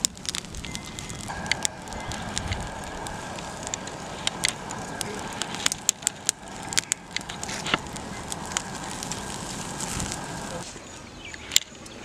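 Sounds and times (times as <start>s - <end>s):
rush of flame: 0.0s - 11.6s
twig fire crackling and popping: 0.0s - 12.0s.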